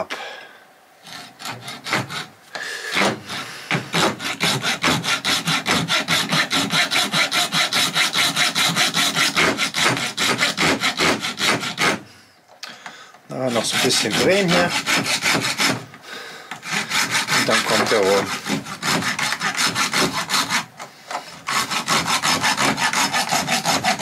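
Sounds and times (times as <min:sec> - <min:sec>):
hacksaw cutting plastic: 0:01.0 - 0:02.3, 0:02.9 - 0:12.1, 0:13.4 - 0:24.0.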